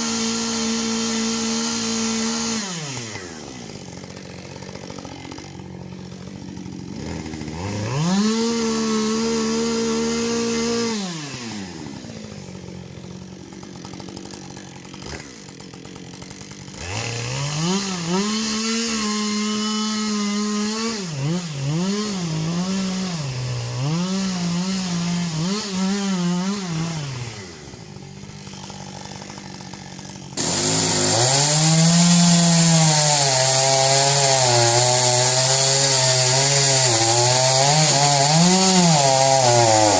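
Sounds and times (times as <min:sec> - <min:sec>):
chainsaw idling and revving: 0:00.0 - 0:39.9
loud chainsaw: 0:00.0 - 0:39.9.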